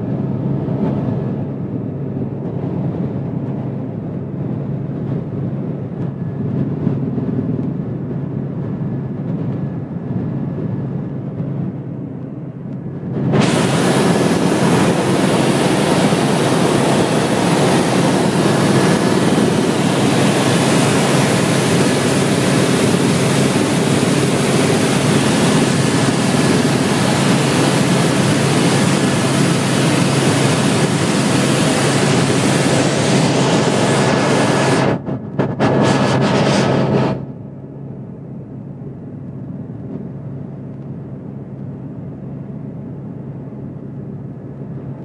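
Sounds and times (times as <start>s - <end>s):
helicopter cabin drone: 0.0s - 45.0s
low hum: 0.0s - 45.0s.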